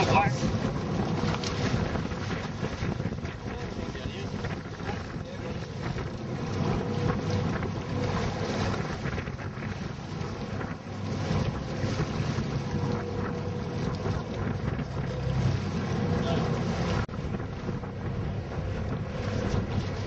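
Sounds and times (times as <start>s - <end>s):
boat engine rumble: 0.0s - 20.0s
sea washing past hull: 0.0s - 20.0s
wind buffeting microphone: 0.0s - 20.0s.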